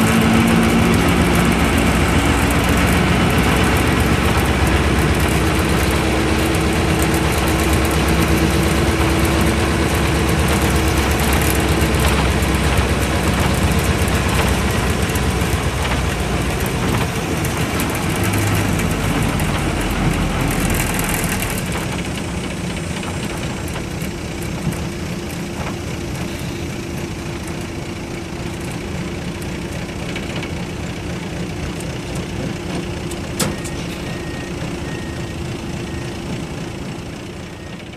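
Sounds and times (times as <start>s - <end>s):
bus diesel engine: 0.0s - 37.9s
road noise: 0.0s - 37.9s.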